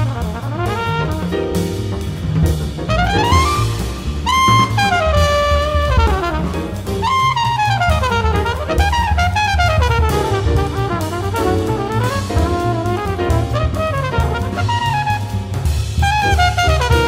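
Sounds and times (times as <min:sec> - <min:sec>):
up-tempo jazz music: 0:00.0 - 0:17.0.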